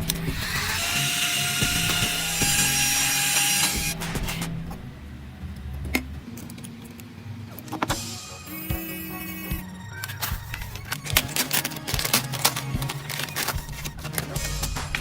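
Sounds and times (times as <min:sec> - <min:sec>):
power tool grinding: 0:00.0 - 0:15.0.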